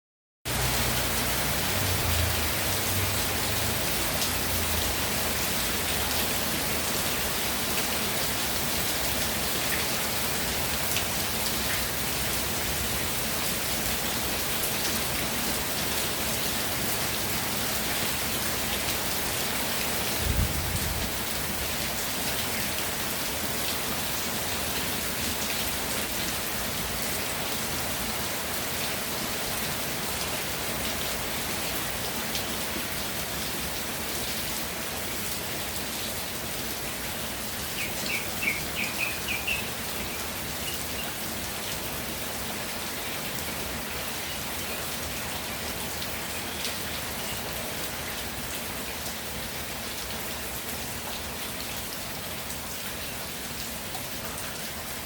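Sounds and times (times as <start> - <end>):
rain falling: 0.5 - 55.0.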